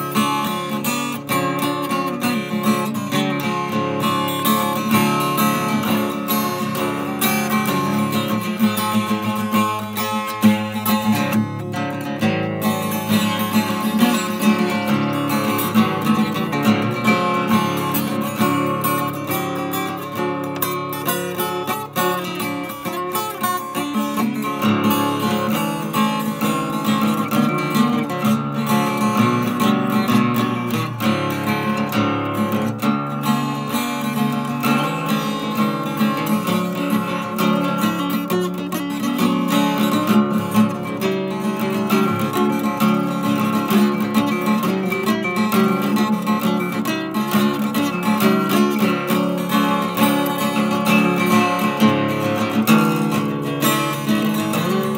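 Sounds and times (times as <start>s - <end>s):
acoustic guitar playing: 0.0s - 54.9s.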